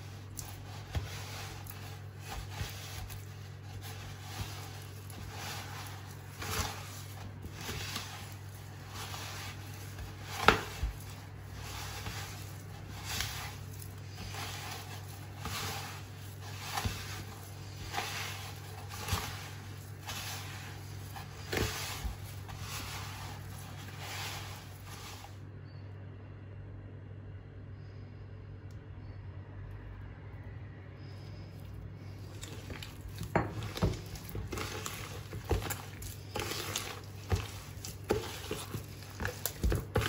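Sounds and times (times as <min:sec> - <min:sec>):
hand kneading butter and sugar: 0:00.0 - 0:25.5, 0:31.0 - 0:40.0.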